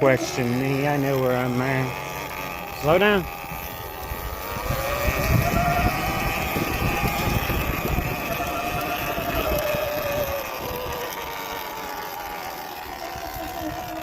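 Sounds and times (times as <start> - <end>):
electric motor whine: 0.0 - 14.0
wind: 0.0 - 14.0.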